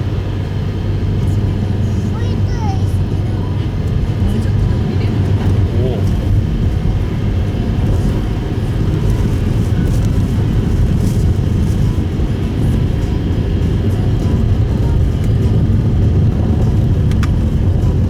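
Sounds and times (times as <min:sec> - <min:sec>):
tyre and road noise in car: 0:00.0 - 0:18.0.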